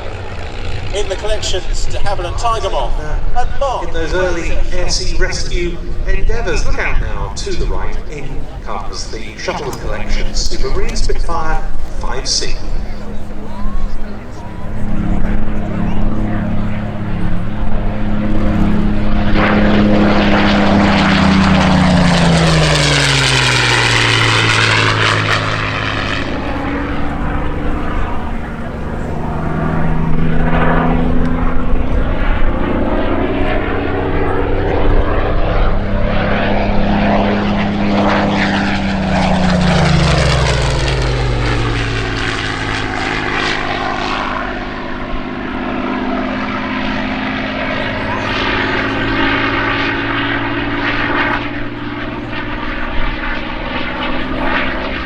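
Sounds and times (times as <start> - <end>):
propeller plane engine passing: 0.0 - 55.0.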